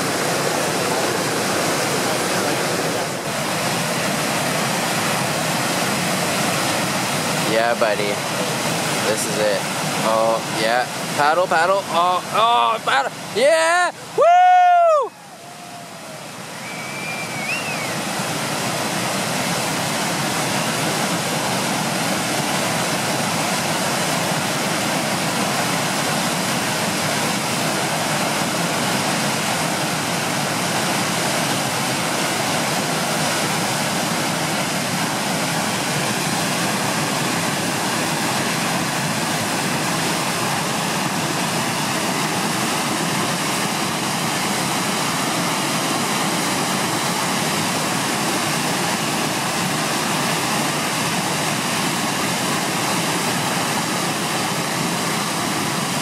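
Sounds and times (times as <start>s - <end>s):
rushing roar of rapids: 0.0s - 56.0s.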